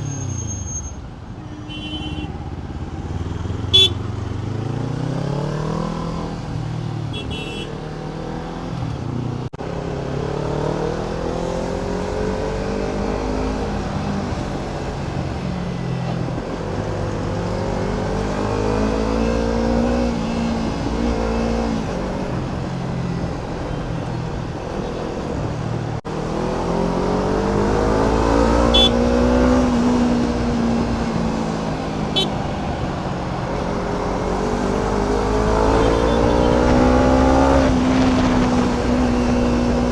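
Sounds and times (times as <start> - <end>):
motorcycle engine revving: 2.0 - 23.6, 24.5 - 39.9.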